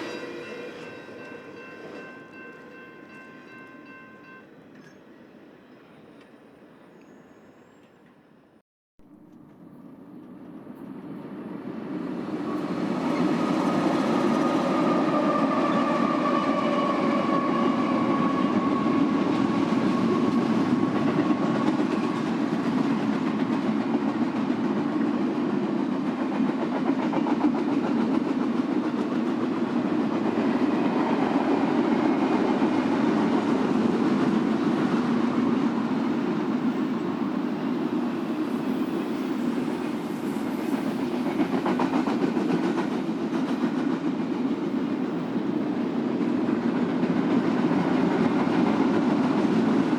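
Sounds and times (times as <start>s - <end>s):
freight train rumbling: 9.4s - 49.9s.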